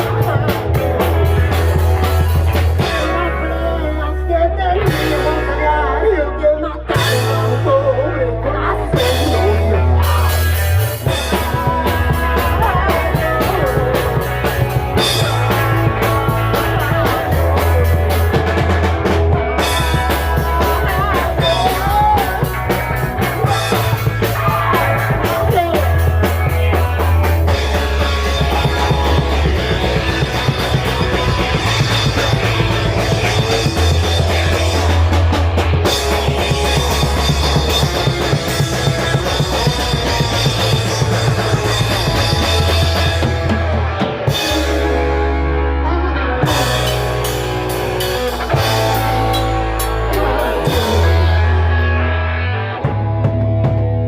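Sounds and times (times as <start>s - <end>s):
bass holding long notes: 0.0s - 54.0s
punk rock band playing: 0.0s - 54.0s.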